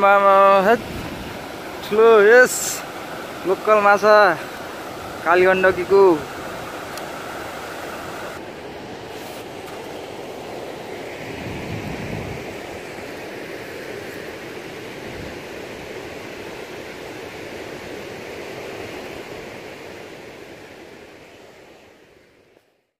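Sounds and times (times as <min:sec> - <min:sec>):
river water rushing: 0:00.0 - 0:22.5.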